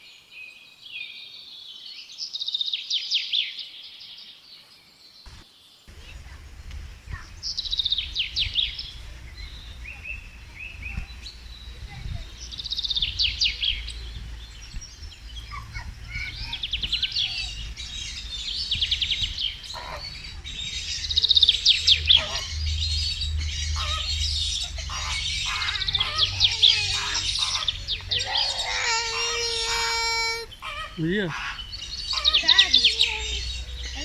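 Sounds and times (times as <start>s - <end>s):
songbirds trilling and chirping: 0.0s - 34.0s
low rumble: 5.3s - 34.0s.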